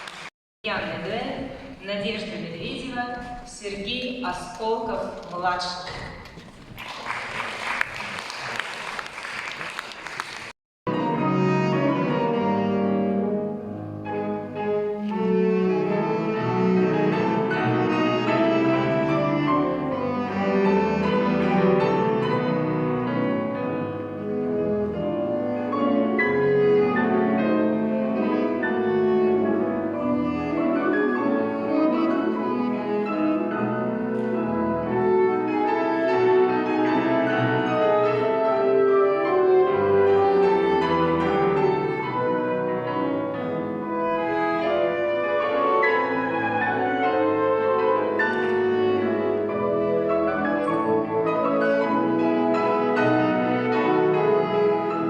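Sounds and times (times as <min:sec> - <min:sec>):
classical piano duet: 0:10.9 - 0:55.0.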